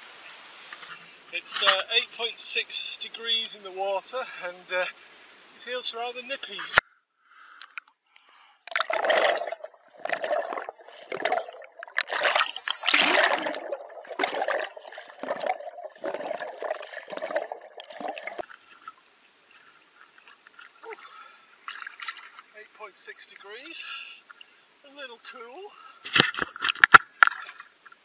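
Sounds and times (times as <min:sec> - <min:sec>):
muffled underwater water surges: 0:00.0 - 0:06.8, 0:08.7 - 0:28.0
faint water lapping: 0:00.0 - 0:07.7, 0:08.6 - 0:28.0.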